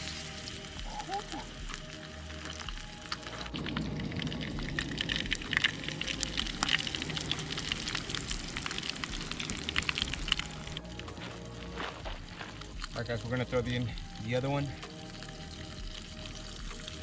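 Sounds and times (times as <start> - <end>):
fish sizzling in a frying pan: 0.0 - 10.8, 14.1 - 17.0.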